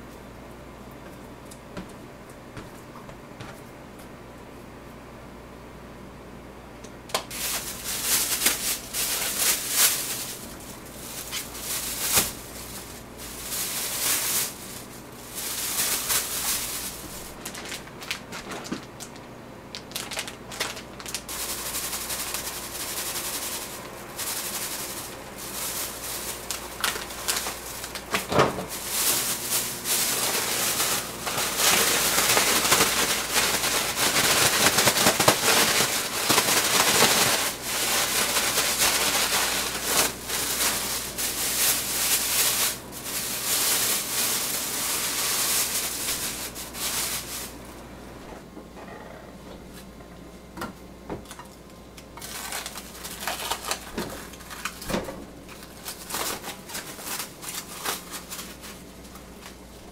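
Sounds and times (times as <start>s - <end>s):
plastic bag crinkling: 7.1s - 47.8s, 52.2s - 59.6s.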